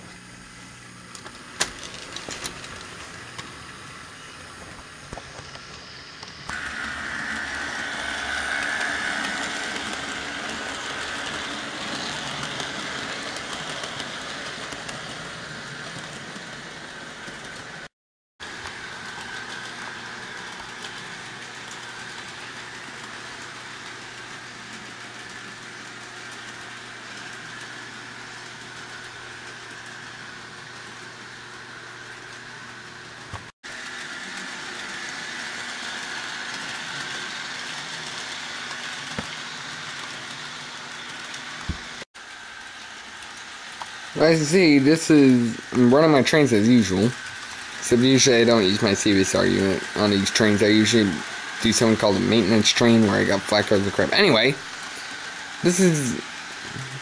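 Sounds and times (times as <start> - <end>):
model trains whirring: 0.0 - 57.0.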